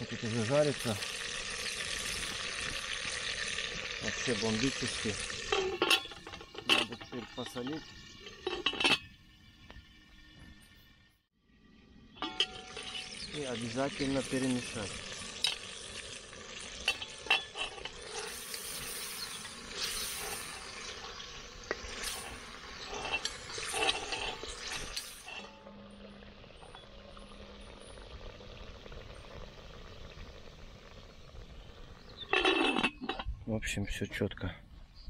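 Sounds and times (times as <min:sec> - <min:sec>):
beef sizzling in a pot: 0:00.0 - 0:33.3
utensil scraping and clinking pot: 0:00.2 - 0:09.8, 0:12.1 - 0:30.3, 0:30.9 - 0:34.2.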